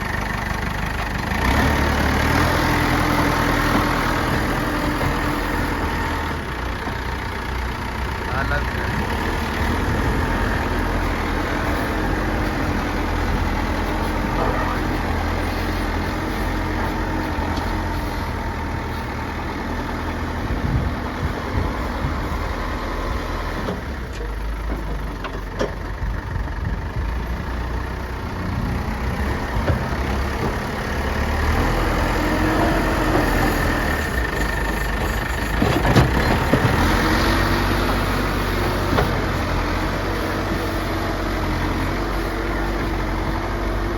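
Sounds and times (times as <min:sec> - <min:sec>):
heavy diesel engine under load: 0:00.0 - 0:43.9.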